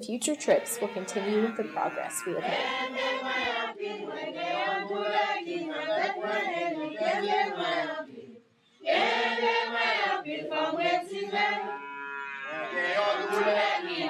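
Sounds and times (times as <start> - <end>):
choir singing: 0.2 - 14.0.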